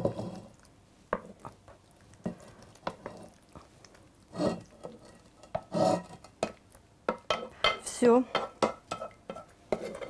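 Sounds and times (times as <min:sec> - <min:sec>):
spoon scraping a frying pan: 0:00.0 - 0:01.4, 0:02.2 - 0:03.4, 0:04.3 - 0:10.0.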